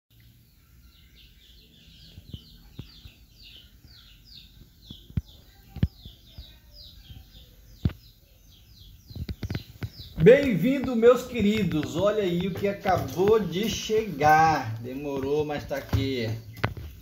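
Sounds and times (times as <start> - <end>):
bird chirping: 0.1 - 17.0.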